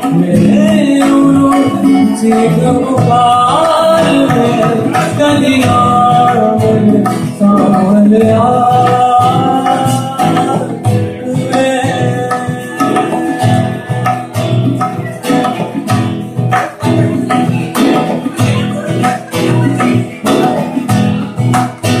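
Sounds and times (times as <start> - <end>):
bass: 0.0 - 22.0
man singing folk song: 0.0 - 22.0
strummed acoustic guitar: 0.0 - 22.0.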